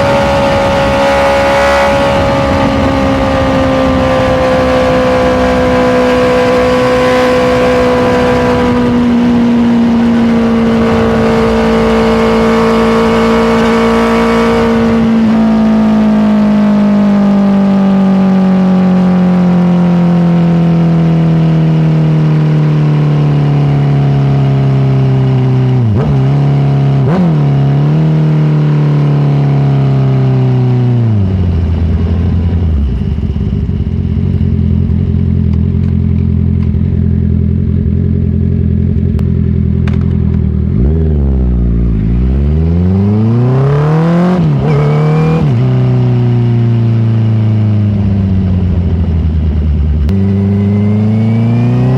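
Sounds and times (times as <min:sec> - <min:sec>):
motorcycle engine revving: 0:00.0 - 0:51.9
throttle blips on downshifts: 0:00.0 - 0:51.9.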